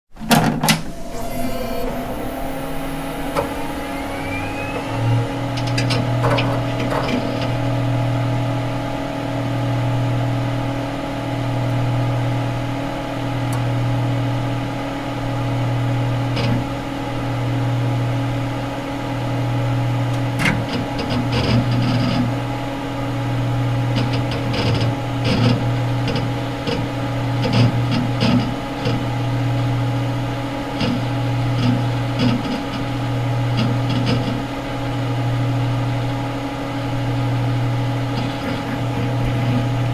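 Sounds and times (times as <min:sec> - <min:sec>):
computer humming: 0:00.6 - 0:39.9.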